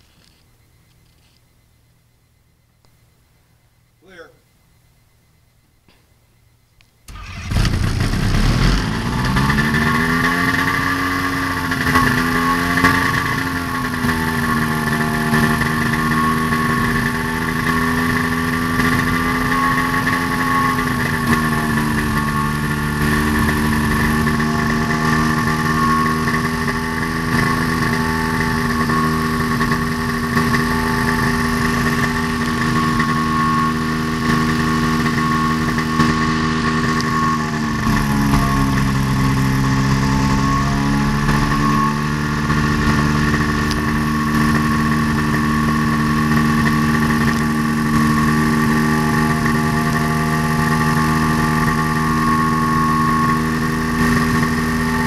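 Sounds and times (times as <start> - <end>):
propeller engine starting and running: 7.1 - 55.0.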